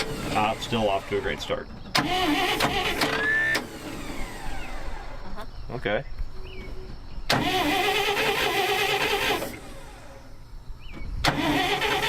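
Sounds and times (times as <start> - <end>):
starter motor cranking engine: 0.0 - 5.2, 7.3 - 12.0.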